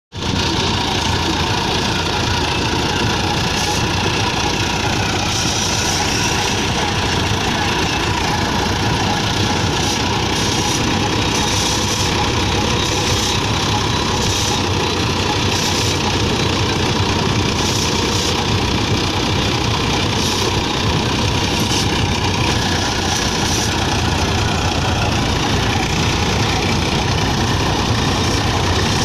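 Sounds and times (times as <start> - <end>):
mechanical whirr and rattle: 0.2 - 29.0.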